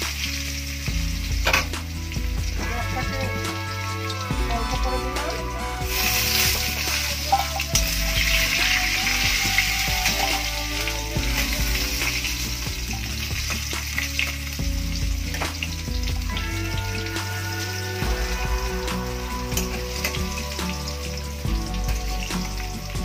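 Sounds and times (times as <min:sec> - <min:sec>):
background music: 0:00.0 - 0:23.0
potatoes sizzling in hot oil: 0:00.0 - 0:23.0.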